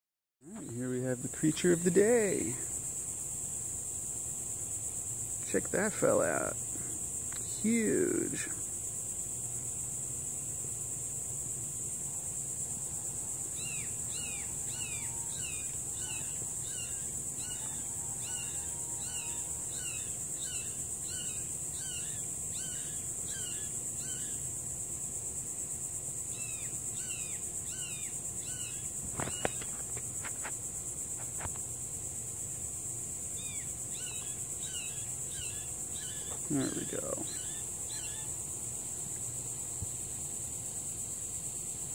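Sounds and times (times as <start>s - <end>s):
insect chirping: 0.4s - 41.9s
insects droning: 0.4s - 41.9s.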